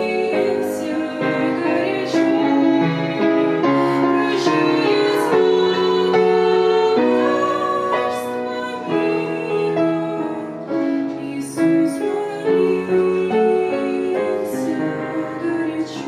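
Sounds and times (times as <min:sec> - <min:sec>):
keyboard melody: 0:00.0 - 0:16.0.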